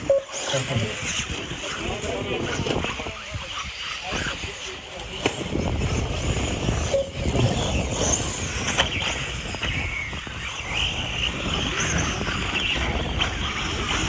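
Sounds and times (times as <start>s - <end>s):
small motors revving: 0.0s - 14.0s.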